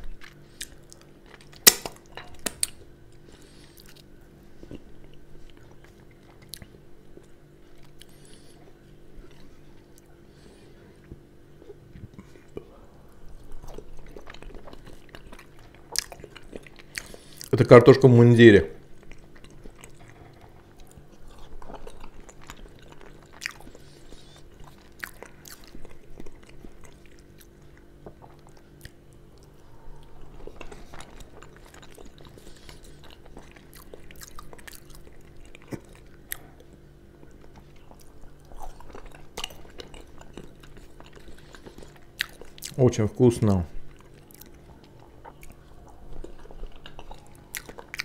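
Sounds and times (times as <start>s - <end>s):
chewing fried potato wedges: 0.0s - 48.0s.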